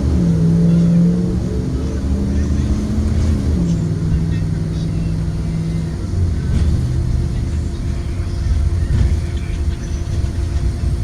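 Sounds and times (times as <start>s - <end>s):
bus engine: 0.0s - 11.0s
road rumble: 0.0s - 11.0s.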